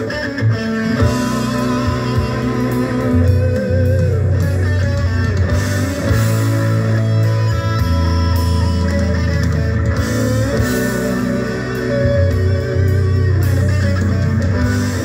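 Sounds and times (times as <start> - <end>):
guitar rock music over speakers: 0.0 - 15.0.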